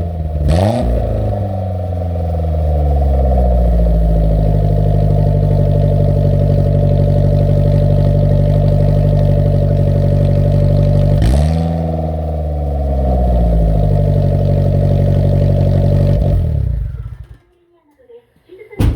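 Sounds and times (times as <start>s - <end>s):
loud car exhaust revving: 0.0s - 17.3s.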